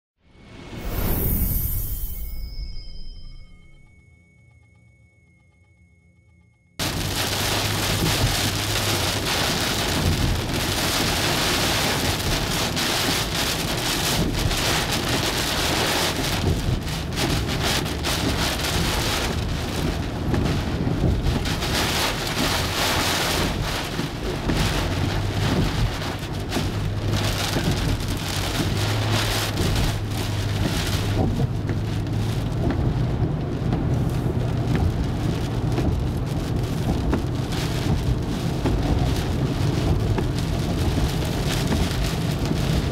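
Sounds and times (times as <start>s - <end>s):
heavy rain on car: 6.8s - 42.9s
road and engine rumble: 6.8s - 42.9s.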